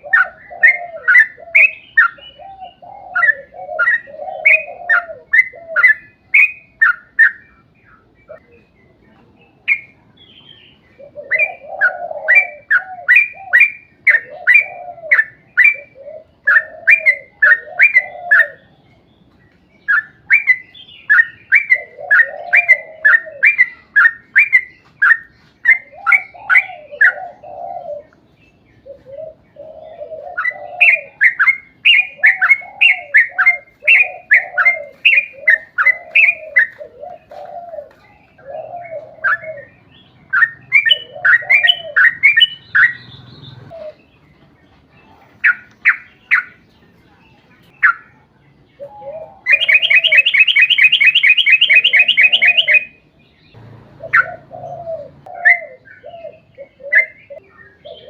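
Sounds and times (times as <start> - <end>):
bulbul chattering song: 0.0 - 44.2, 45.4 - 58.0.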